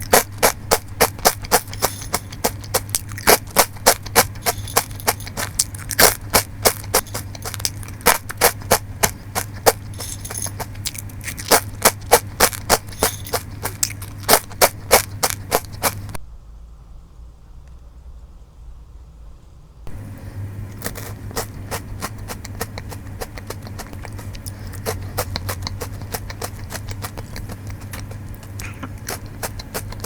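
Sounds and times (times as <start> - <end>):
crunching and chewing rusk: 0.0 - 16.2, 19.9 - 30.0.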